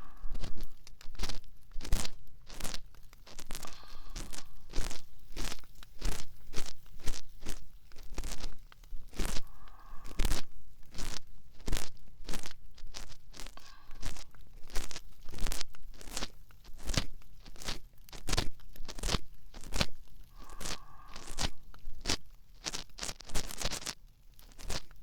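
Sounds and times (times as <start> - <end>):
ear pick scratching: 0.0 - 25.0.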